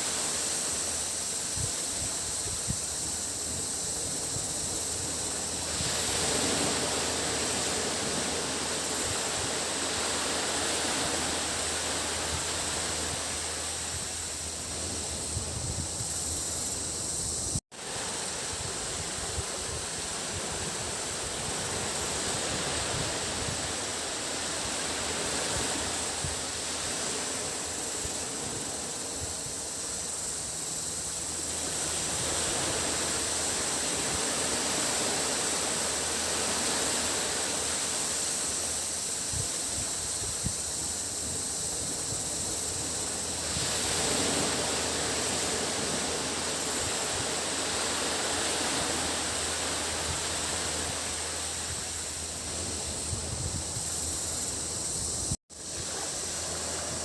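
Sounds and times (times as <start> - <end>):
cicadas droning: 0.0 - 57.0
small waves washing onto sand: 0.0 - 57.0.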